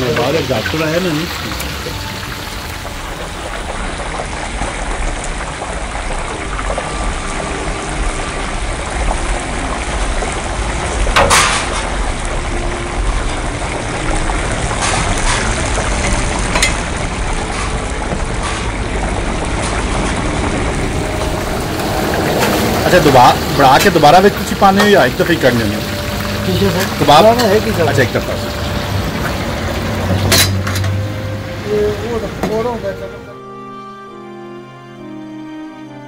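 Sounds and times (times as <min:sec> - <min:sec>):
food sizzling in hot oil: 0:00.0 - 0:32.6.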